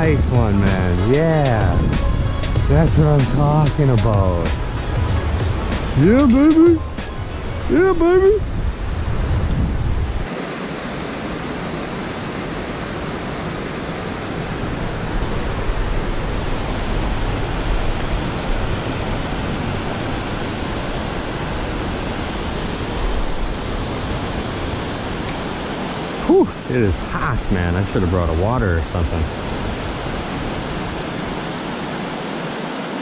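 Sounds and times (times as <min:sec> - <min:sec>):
wind rumble on microphone: 0:00.0 - 0:32.2
river water rushing over rapids: 0:00.0 - 0:33.0.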